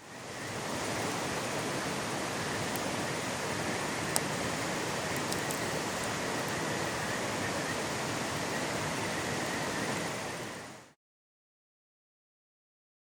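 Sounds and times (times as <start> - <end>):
stream flowing over rocks: 0.0 - 10.8.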